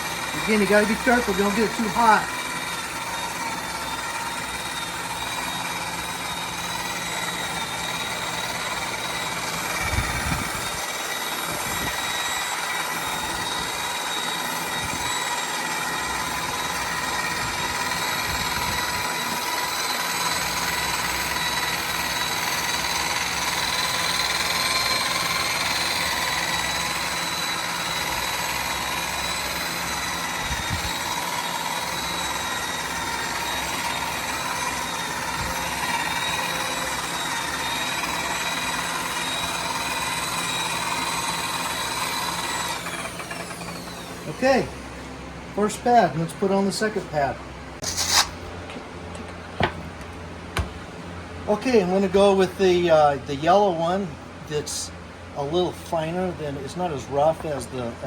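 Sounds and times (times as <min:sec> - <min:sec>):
electric buffer motor whine: 0:00.0 - 0:58.0.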